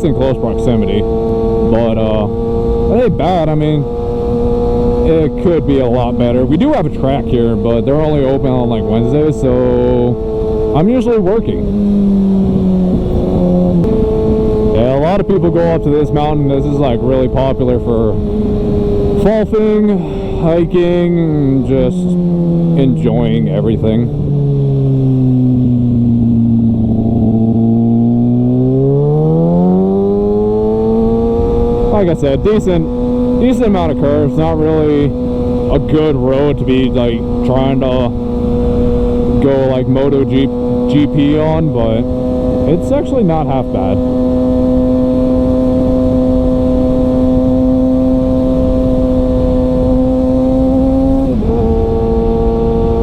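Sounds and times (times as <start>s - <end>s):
motorcycle engine revving: 0.0s - 53.0s
wind rush: 0.1s - 53.0s.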